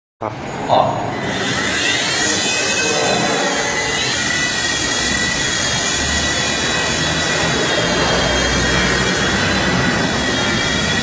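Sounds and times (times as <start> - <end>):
toy helicopter rotor whirring: 1.1 - 11.0.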